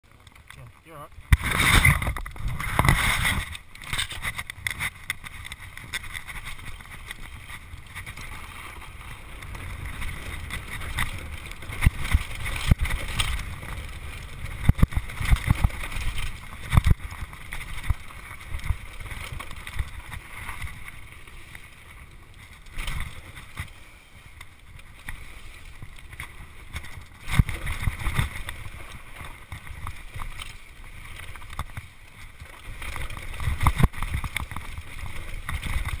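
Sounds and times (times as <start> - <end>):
bike rattling and knocking: 1.3 - 21.1, 22.2 - 23.7, 25.8 - 36.0.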